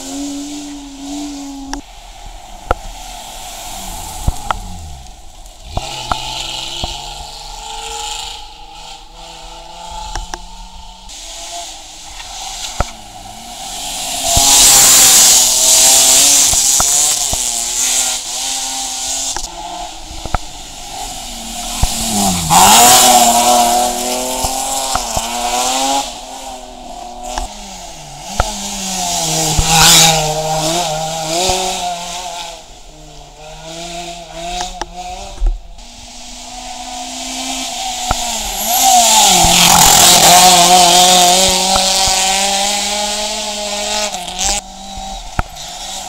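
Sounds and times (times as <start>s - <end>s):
rally car engines revving: 0.0s - 46.0s
tyre noise: 0.0s - 46.0s.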